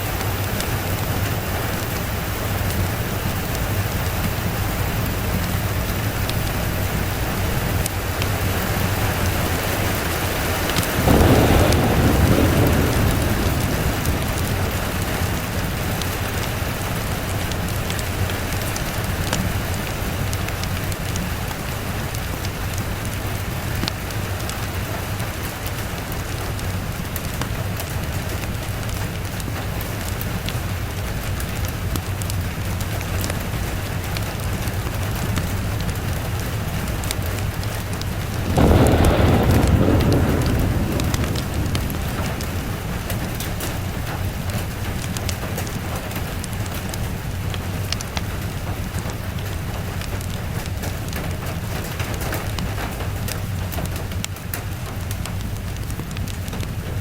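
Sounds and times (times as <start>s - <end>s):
thunder rolling: 0.0s - 30.4s, 31.4s - 47.4s
steady rain: 0.0s - 57.0s.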